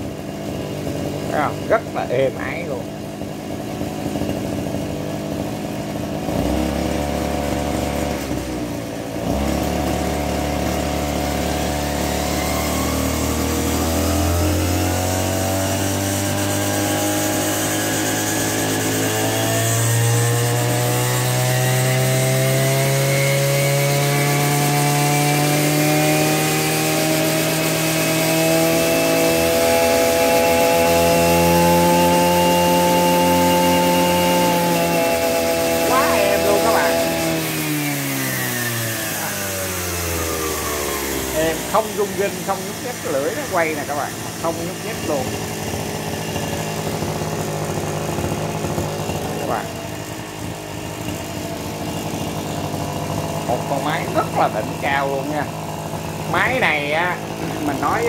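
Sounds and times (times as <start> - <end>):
brush cutter engine running: 0.0 - 58.0.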